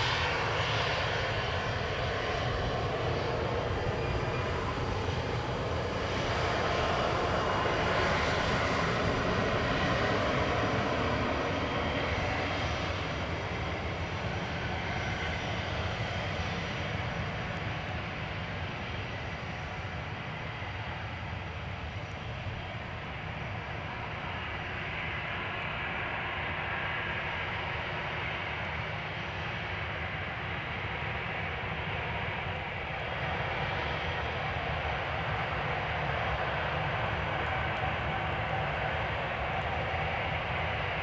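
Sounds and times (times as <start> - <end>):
jet engines in reverse thrust: 0.0 - 41.0.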